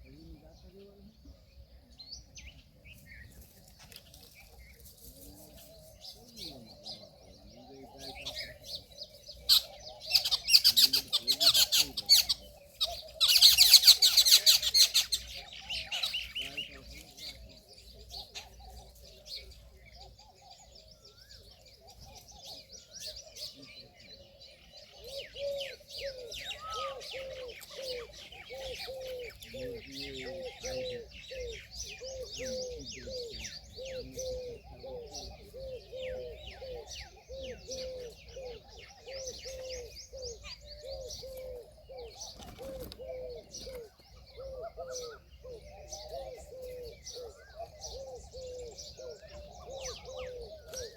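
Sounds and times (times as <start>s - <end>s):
small birds chirping: 0.0s - 50.9s
peahen calling: 4.0s - 50.9s.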